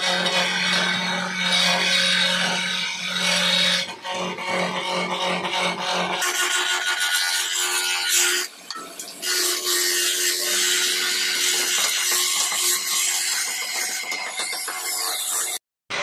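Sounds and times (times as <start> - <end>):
chisel cutting wood on lathe: 0.0 - 8.5, 9.2 - 16.0.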